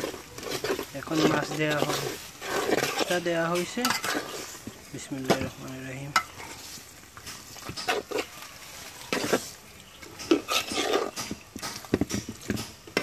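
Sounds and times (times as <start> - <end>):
metal spoon scraping a pot: 0.0 - 13.0
pot sizzling: 0.0 - 13.0.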